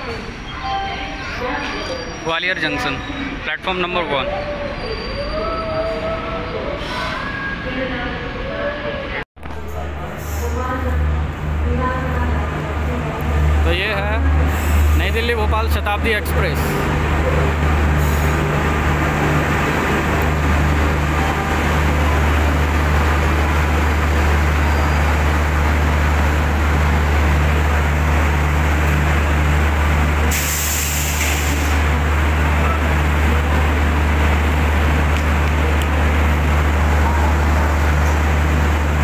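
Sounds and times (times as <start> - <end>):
train rumble: 4.4 - 39.0
electric locomotive hum: 7.7 - 39.0.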